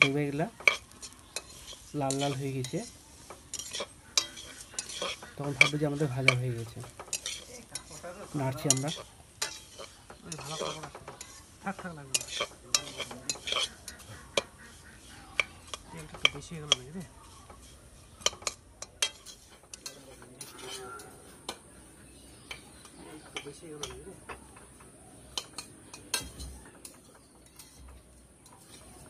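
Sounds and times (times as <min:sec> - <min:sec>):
hot oil sizzling: 0:00.0 - 0:29.0
metal spatula scraping pan: 0:00.0 - 0:29.0.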